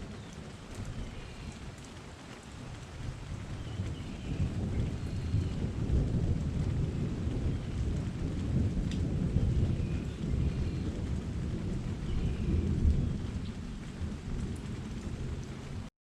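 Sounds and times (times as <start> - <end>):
steady rain: 0.0 - 15.9
thunder rumbling: 2.6 - 15.9.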